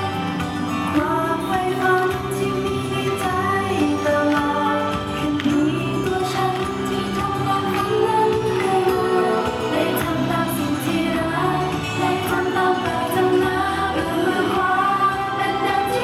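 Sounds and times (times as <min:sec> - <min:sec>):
backing music: 0:00.0 - 0:16.0
woman singing live pop song: 0:00.0 - 0:16.0.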